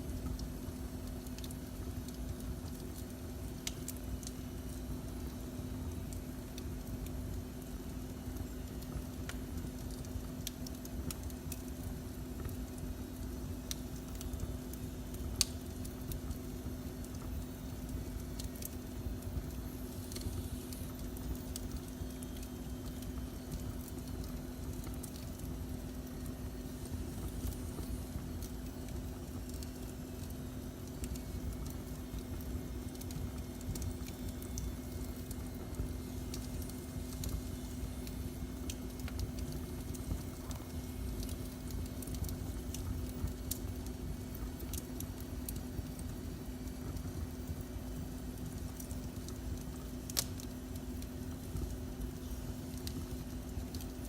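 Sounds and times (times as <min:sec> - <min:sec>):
constant hum: 0:00.0 - 0:54.0
fire crackling and popping: 0:00.0 - 0:54.0.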